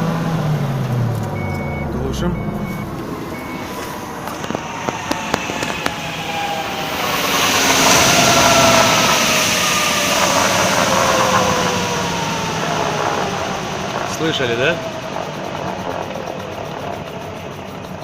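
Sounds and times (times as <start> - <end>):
tyre and road noise: 0.0 - 18.0
wheel bearing hum falling in pitch: 2.8 - 18.0.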